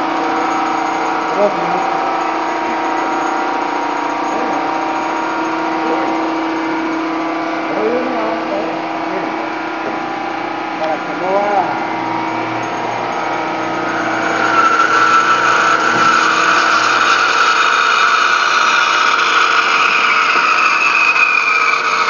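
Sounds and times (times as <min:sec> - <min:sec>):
band saw cutting wood: 0:00.0 - 0:22.0.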